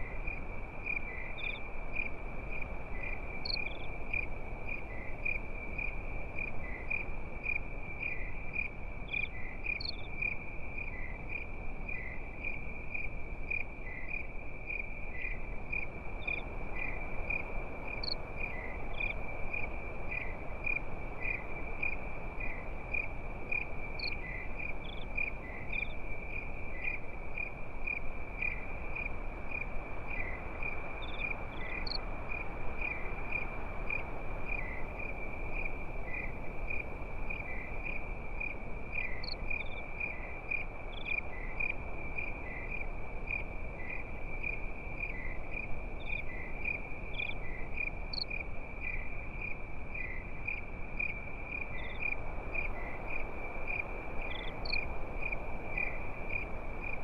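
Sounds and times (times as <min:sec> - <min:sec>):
crickets chirping: 0:00.0 - 0:57.0
soft hiss: 0:00.0 - 0:57.0
higher insect chirps: 0:00.2 - 0:57.0.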